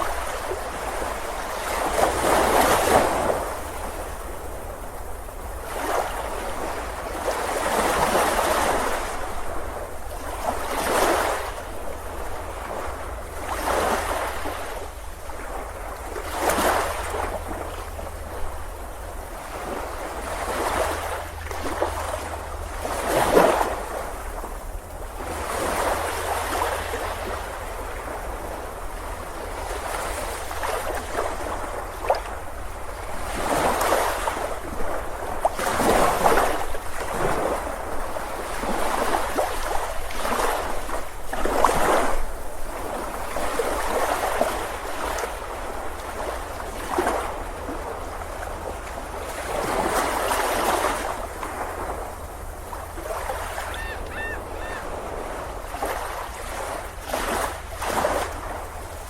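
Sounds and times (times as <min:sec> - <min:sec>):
small waves breaking on a beach: 0:00.0 - 0:59.0.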